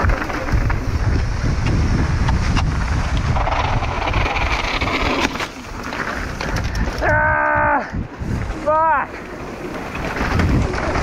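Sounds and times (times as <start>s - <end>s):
bike knocks and rattles: 0.0s - 11.0s
wind buffeting microphone: 0.0s - 11.0s.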